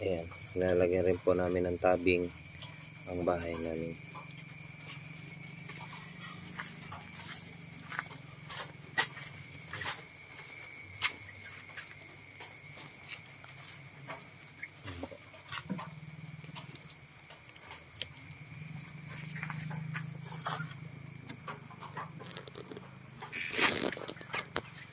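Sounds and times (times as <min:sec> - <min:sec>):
chickens scratching and tapping: 0:01.9 - 0:24.9.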